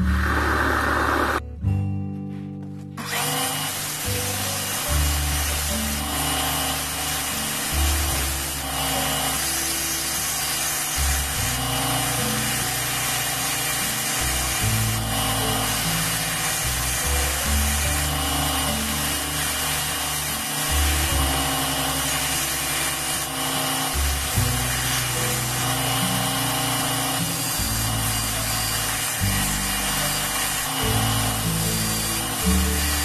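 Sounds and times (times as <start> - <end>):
belt grinder grinding steel blade: 3.0 - 33.0.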